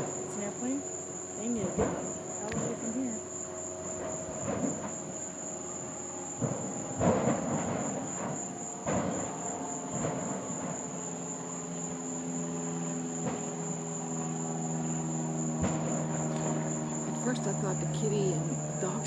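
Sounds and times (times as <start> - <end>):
insects trilling: 0.0 - 19.0
low droning hum: 0.0 - 19.0.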